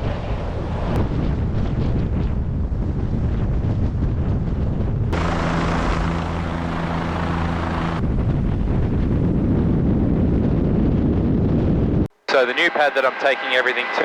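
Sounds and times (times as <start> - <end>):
helicopter rotor rumbling: 0.0 - 14.0.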